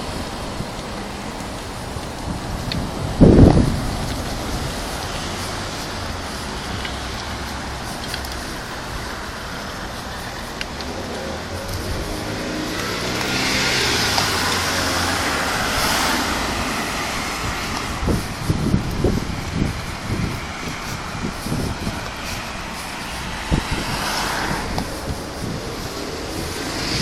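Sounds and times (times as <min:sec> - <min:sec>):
road noise: 0:00.0 - 0:27.0
car engine passing: 0:03.2 - 0:27.0.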